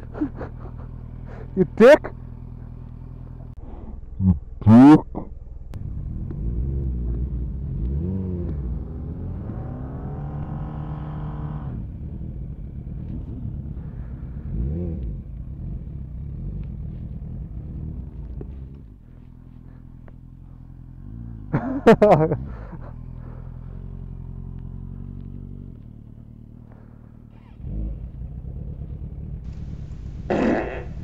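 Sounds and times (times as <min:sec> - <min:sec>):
motorcycle engine revving: 0:00.0 - 0:04.6, 0:05.4 - 0:31.0.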